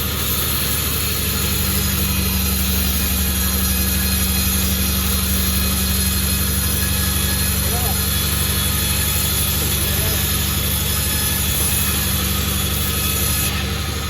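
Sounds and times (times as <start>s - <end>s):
sawmill machinery humming: 0.0s - 14.0s.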